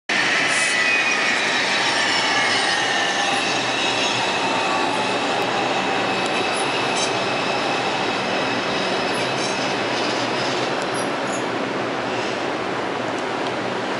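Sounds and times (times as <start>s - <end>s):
train wheels rumbling on rail: 0.1s - 13.9s
wheels and brakes squealing: 0.2s - 11.5s.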